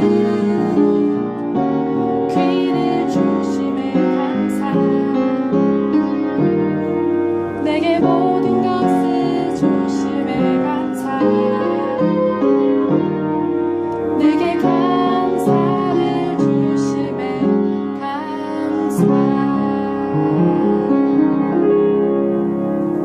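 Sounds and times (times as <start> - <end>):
gentle slow piano song: 0.0 - 23.0.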